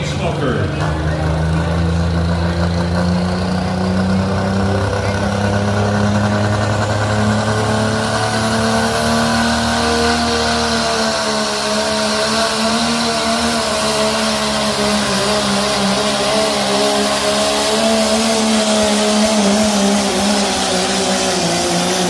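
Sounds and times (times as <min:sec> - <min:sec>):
truck engine at high revs: 0:00.0 - 0:22.0.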